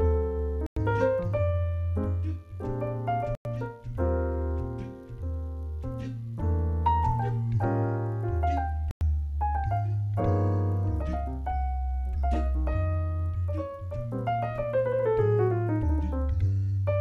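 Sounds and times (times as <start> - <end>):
gentle piano tune: 0.0 - 17.0.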